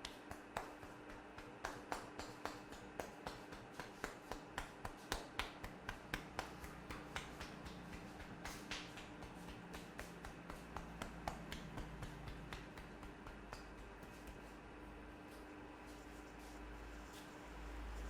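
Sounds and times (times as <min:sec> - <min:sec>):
hands slapping in percussive massage: 0:00.0 - 0:14.7.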